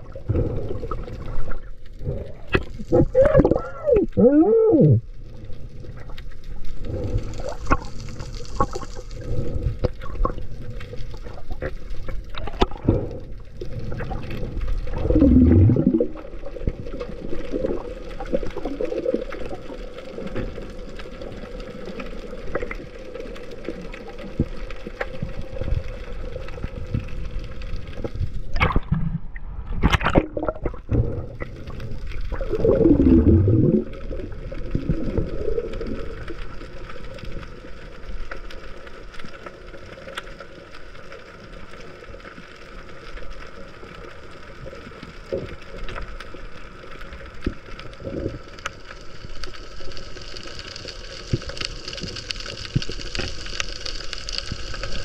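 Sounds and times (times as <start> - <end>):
underwater rush and gurgle: 0.0 - 55.0.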